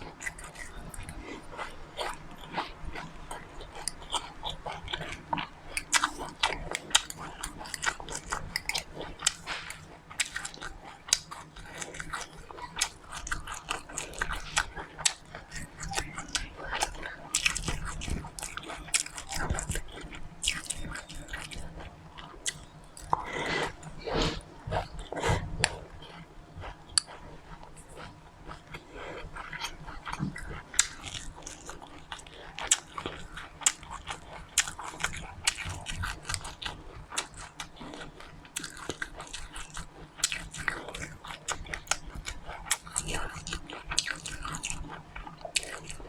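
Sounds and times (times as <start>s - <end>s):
person chewing crunchy seeds: 0.0s - 46.0s.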